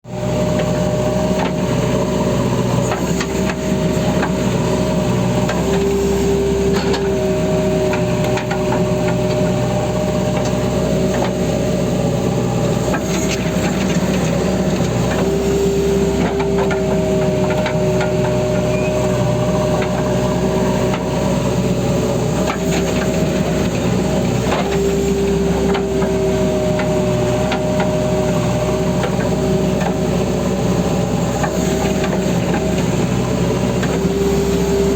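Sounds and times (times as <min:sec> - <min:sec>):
diesel engine running under load: 0:00.0 - 0:34.9
hydraulic whine: 0:00.1 - 0:34.9.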